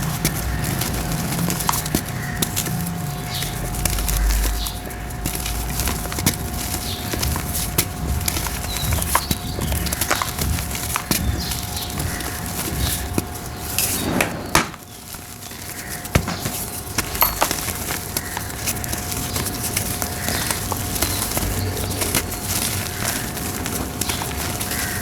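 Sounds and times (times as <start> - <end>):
dry dirt crumbling and cracking: 0.0 - 25.0.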